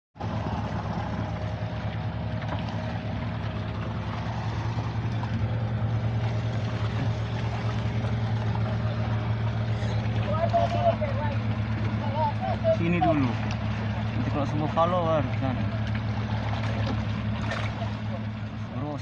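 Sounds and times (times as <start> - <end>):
boat engine humming: 0.2 - 19.0.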